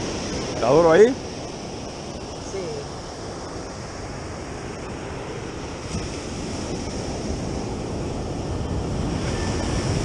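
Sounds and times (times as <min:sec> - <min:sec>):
ocean surf on beach: 0:00.0 - 0:10.0
wind rumbling on microphone: 0:00.0 - 0:10.0.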